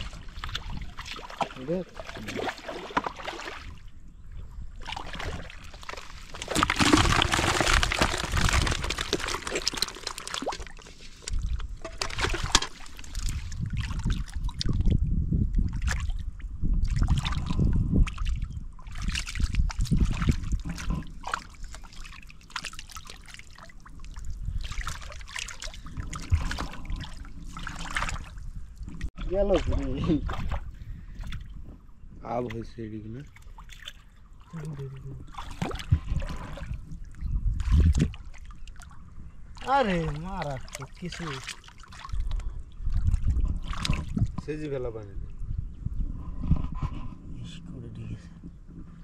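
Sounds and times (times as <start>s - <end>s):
mud and water splashing: 0.0s - 15.0s, 15.6s - 31.6s, 32.3s - 45.0s.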